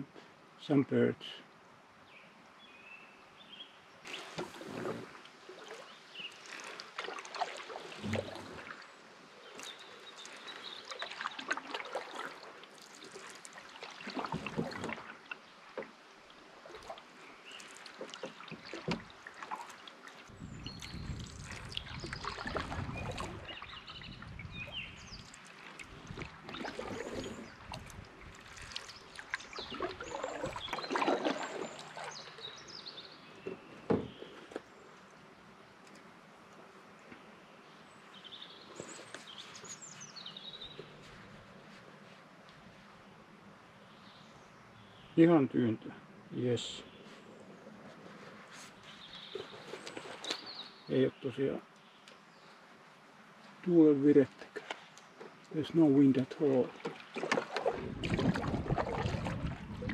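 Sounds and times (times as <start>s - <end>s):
canoe paddle swishing and dripping: 4.0s - 35.2s, 38.0s - 43.0s, 46.9s - 51.0s, 51.7s - 59.9s.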